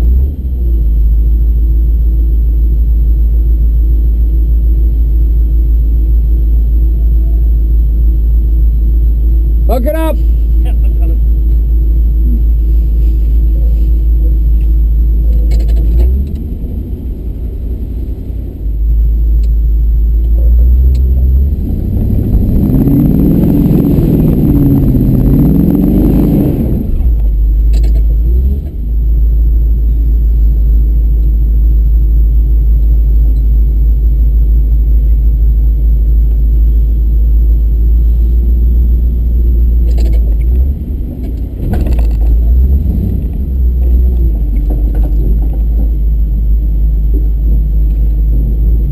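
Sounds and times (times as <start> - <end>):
truck engine rumbling and revving: 0.0 - 48.9.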